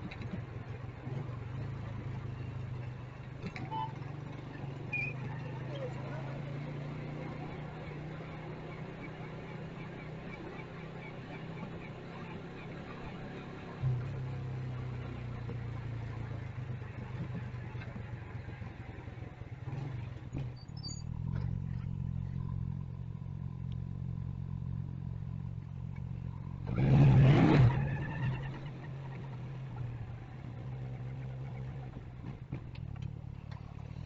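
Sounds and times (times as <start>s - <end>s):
motorcycle engine humming: 0.0s - 34.0s.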